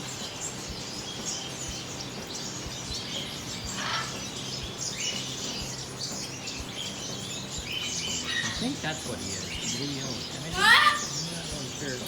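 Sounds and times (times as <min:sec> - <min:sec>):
cage birds chirping and calling: 0:00.0 - 0:12.0.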